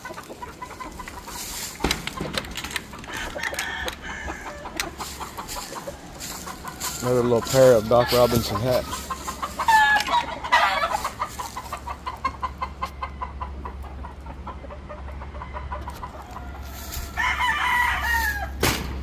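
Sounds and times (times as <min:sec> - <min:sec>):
rooster clucking: 0:00.0 - 0:18.6
roosters crowing: 0:00.0 - 0:18.9.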